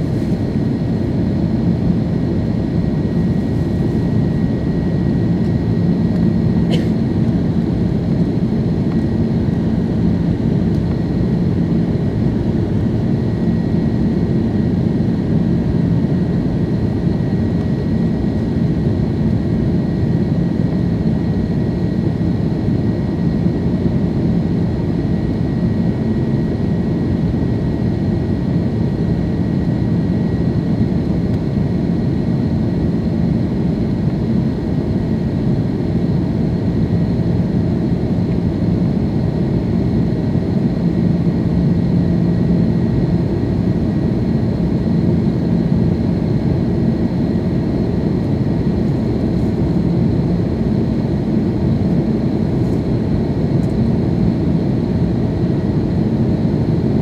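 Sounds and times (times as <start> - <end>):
aircraft engine hum in cabin: 0.0 - 57.0.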